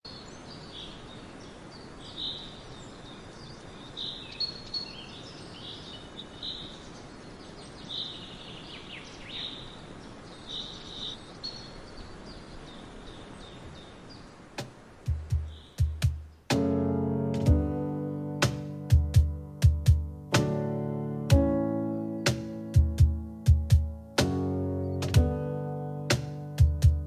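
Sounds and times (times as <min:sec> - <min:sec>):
songbirds chirping and trilling: 0:00.1 - 0:19.0, 0:20.7 - 0:25.4
steady background hiss: 0:00.1 - 0:27.0.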